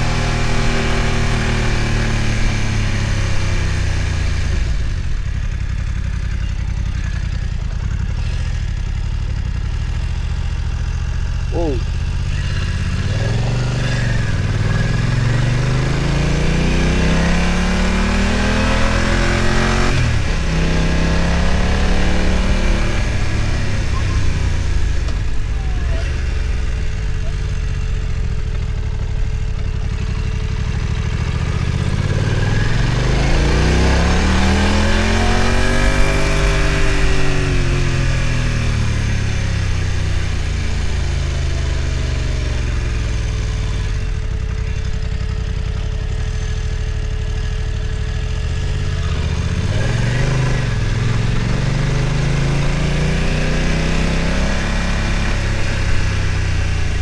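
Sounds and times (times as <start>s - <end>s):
wind and road noise: 0.0s - 8.5s, 11.0s - 46.3s, 47.7s - 57.0s
motorcycle engine revving: 0.0s - 57.0s.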